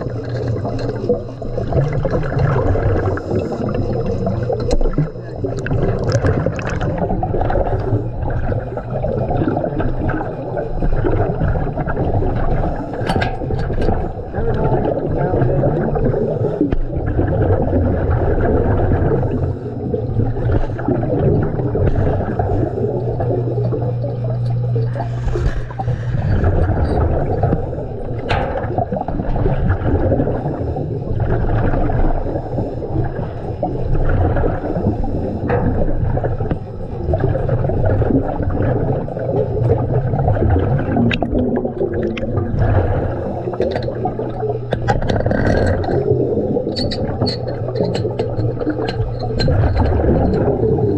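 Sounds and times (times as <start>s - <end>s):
underwater breathing bubbles: 0.0s - 50.9s.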